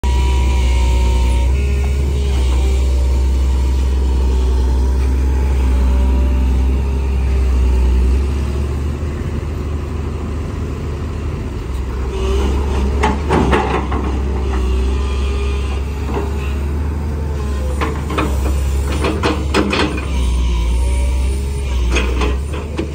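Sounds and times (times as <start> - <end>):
hydraulic pump howling: 0.0 - 9.0, 11.7 - 22.9
excavator diesel engine: 0.0 - 22.9.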